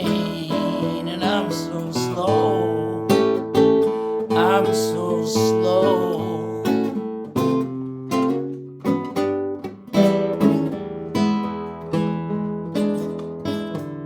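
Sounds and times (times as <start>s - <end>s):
acoustic guitar strummed: 0.0s - 14.0s.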